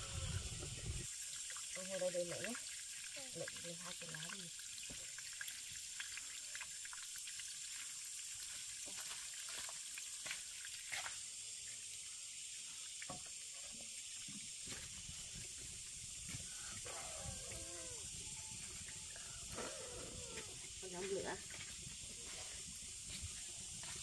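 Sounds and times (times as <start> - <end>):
running water hissing: 0.0 - 24.0.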